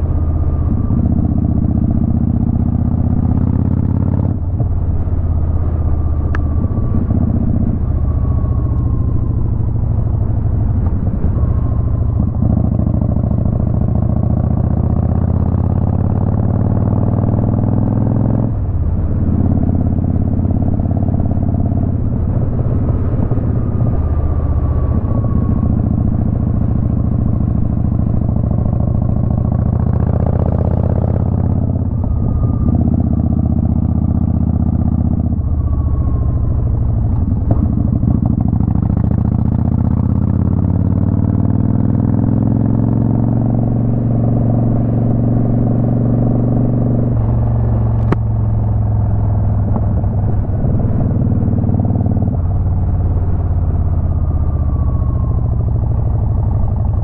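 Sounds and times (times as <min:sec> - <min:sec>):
motorcycle engine accelerating: 0:00.0 - 0:57.0
road and wind noise: 0:00.0 - 0:57.0.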